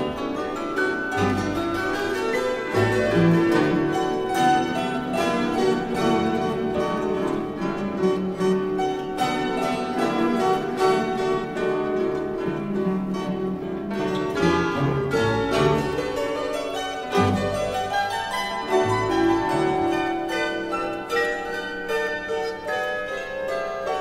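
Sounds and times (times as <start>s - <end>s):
plucked lute ensemble playing: 0.0s - 24.0s.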